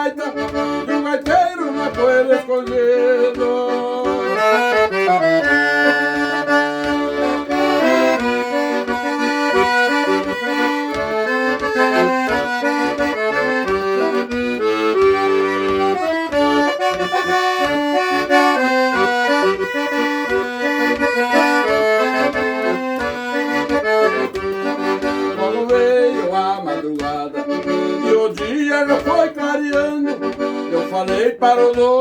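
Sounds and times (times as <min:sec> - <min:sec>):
accordion melody over pulsing bass: 0:00.0 - 0:32.0.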